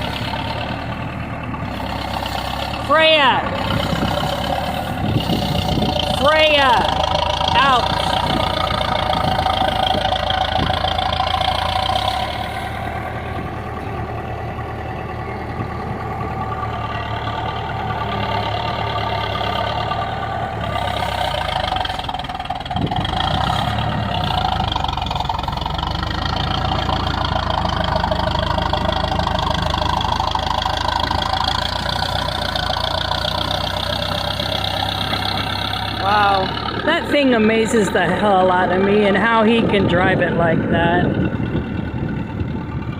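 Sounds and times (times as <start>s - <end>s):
diesel engine of earthmoving machine: 0.0s - 42.9s.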